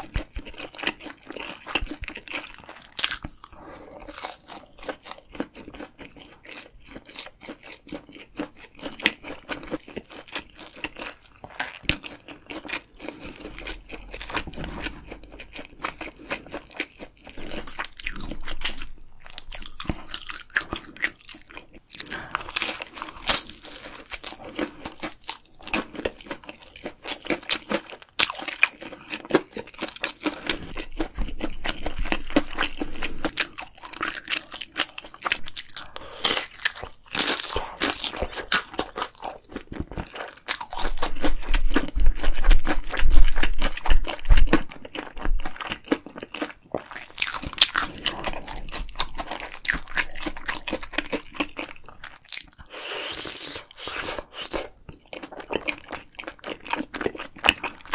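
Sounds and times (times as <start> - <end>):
crunching fried food: 0.0 - 57.9
wet chewing: 0.0 - 57.9.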